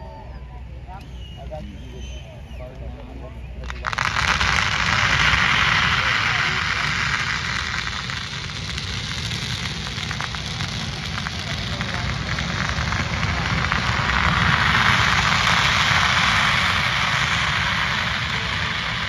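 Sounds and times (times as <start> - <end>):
firecrackers crackling: 1.1 - 19.0.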